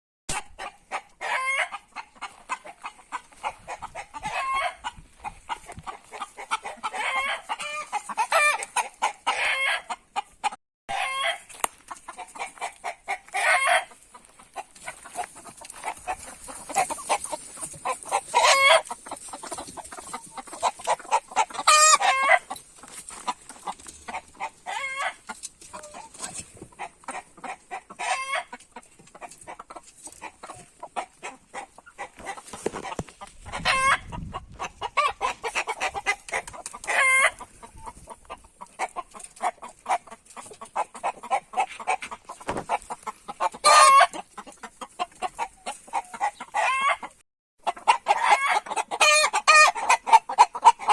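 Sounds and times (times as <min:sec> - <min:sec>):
chickens clucking: 0:00.3 - 0:50.9.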